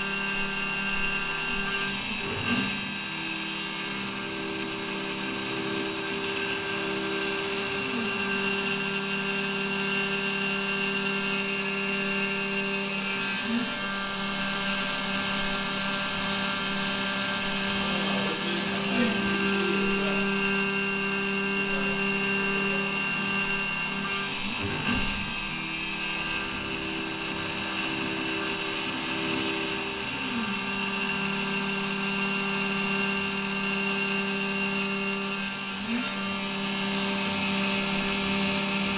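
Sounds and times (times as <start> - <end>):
milling machine spindle whining: 0.0 - 38.9.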